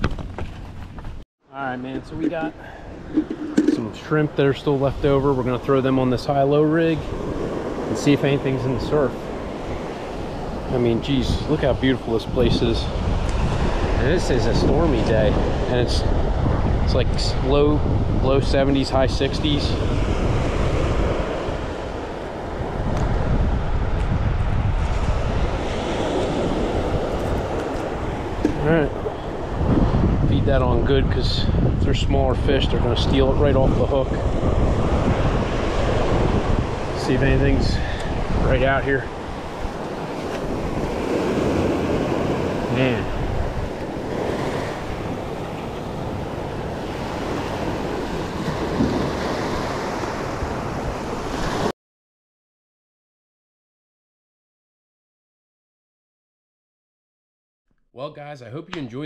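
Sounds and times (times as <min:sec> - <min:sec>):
surf washing on beach: 0:01.7 - 0:51.7
wind buffeting microphone: 0:01.9 - 0:51.7.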